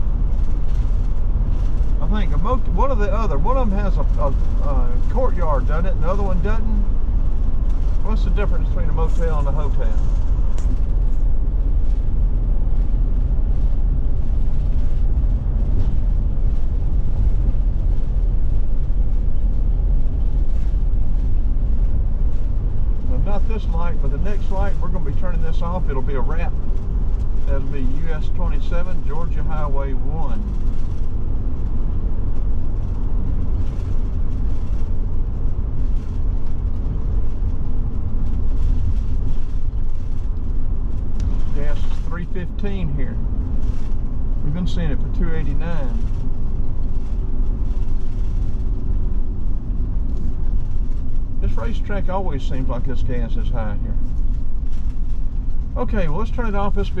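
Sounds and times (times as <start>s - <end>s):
motorhome engine and road noise: 0.0s - 57.0s.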